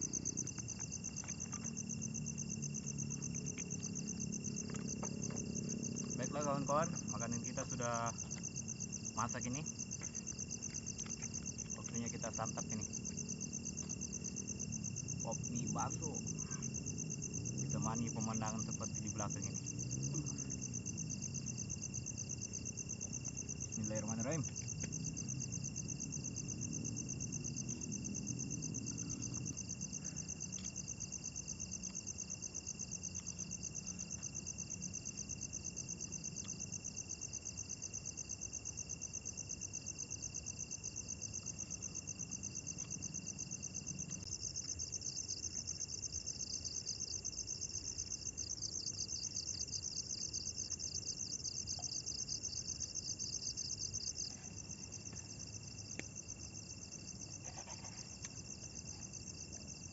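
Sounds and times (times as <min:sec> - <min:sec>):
high-pitched insect drone: 0:00.0 - 0:59.9
insects pulsing trill: 0:00.0 - 0:59.9.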